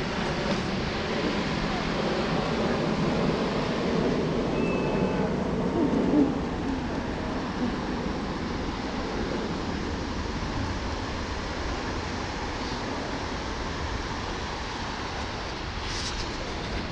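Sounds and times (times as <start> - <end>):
wind rumbling on microphone: 0.0 - 16.9.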